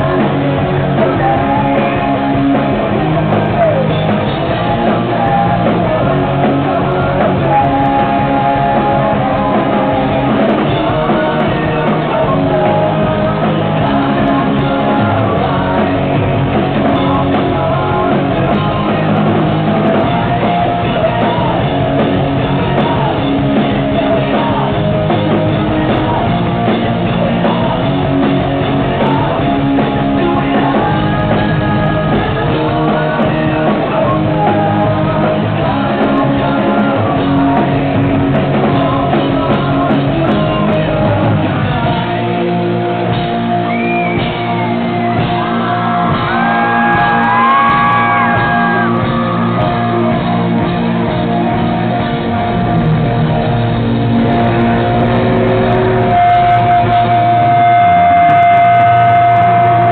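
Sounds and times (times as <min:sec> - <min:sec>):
live rock band with vocals: 0:00.0 - 0:59.9.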